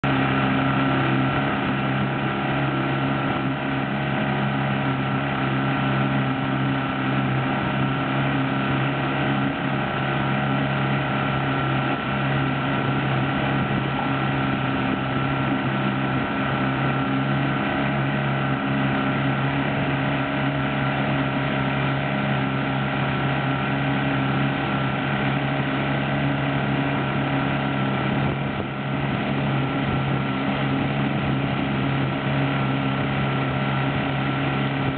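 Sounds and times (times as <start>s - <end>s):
outboard motor running: 0.0s - 34.9s
wake water rushing: 0.0s - 34.9s
wind: 0.0s - 34.9s.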